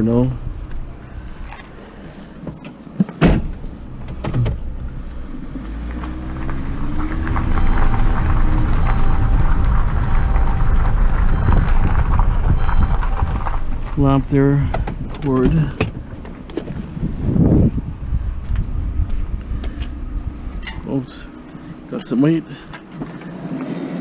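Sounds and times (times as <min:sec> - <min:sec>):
low road rumble: 0:00.0 - 0:24.0
vehicle engine revving: 0:03.6 - 0:24.0.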